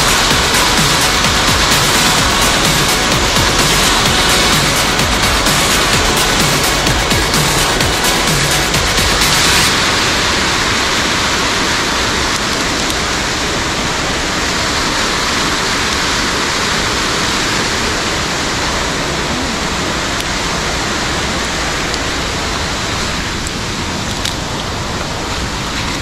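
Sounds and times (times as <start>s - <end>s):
white water rushing: 0.0s - 26.0s.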